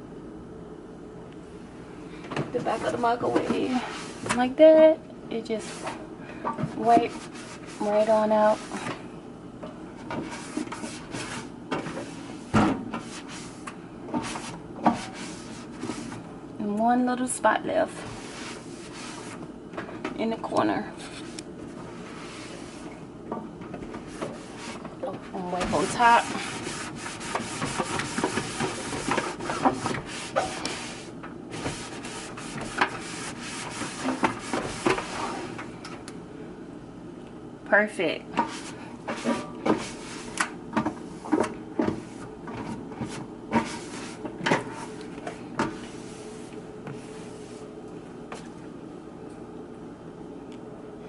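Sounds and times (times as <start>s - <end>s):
cloth rubbing microwave walls: 2.4s - 35.8s, 38.3s - 48.7s.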